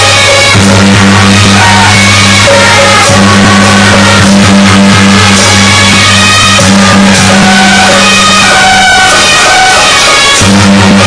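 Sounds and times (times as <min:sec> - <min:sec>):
cymbal or gong crashes: 0:00.0 - 0:11.0
percussion: 0:00.0 - 0:11.0
wind instruments playing: 0:00.0 - 0:11.0.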